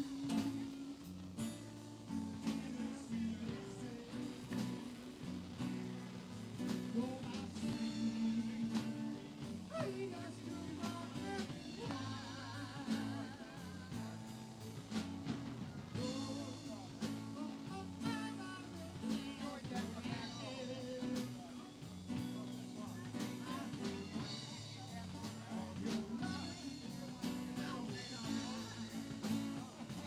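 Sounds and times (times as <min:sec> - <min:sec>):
bending lead guitar line: 0:00.0 - 0:30.0
live blues-rock band: 0:00.0 - 0:30.0.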